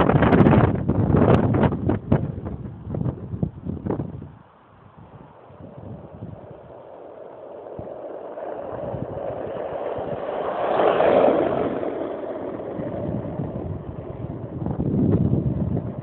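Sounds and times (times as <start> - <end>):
skateboard wheels rolling on asphalt: 0.0 - 16.0
wind noise on microphone: 0.0 - 16.0.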